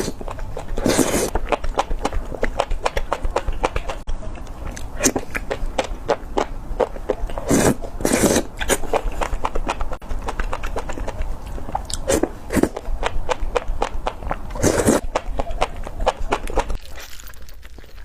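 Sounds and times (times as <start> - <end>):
crisp chewing and biting: 0.0 - 18.0.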